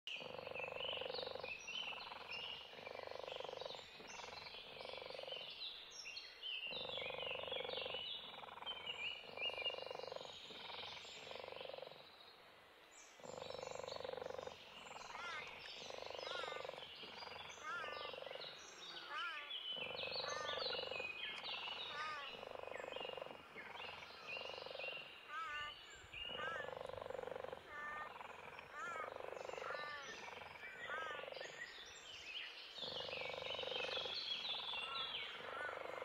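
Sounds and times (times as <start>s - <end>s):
pulsing croaking chorus: 0.1s - 5.5s, 6.7s - 12.0s, 13.2s - 31.8s, 32.7s - 36.0s
birds chirping: 0.1s - 12.1s, 12.9s - 36.0s.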